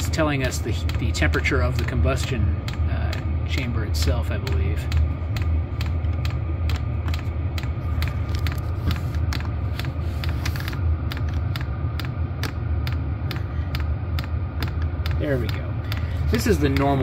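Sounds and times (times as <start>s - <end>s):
fuel pump ticking: 0.0s - 8.6s, 9.2s - 17.0s
faint steady whine: 0.0s - 17.0s
heater combustion rumble: 0.0s - 17.0s.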